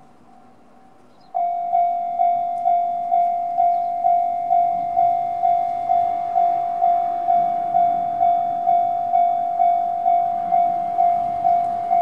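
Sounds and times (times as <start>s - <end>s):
level crossing electronic bell: 1.4s - 12.0s.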